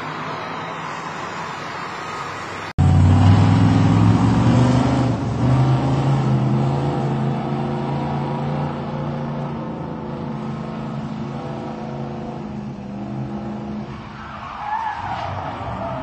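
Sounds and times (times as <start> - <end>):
car engines accelerating: 0.0 - 16.0
faint city traffic: 0.0 - 16.0.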